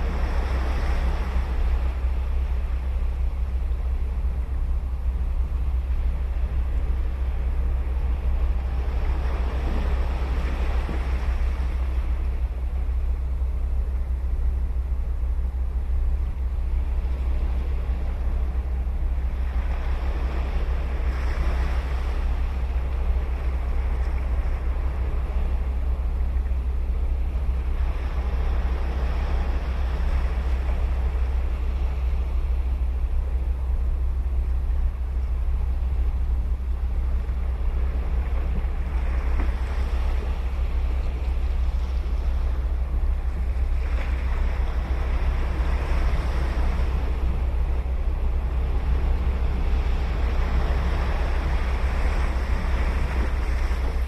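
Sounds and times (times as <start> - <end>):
ocean waves breaking on beach: 0.0 - 12.9, 16.1 - 34.3, 35.0 - 54.0
low rumble: 0.0 - 54.0.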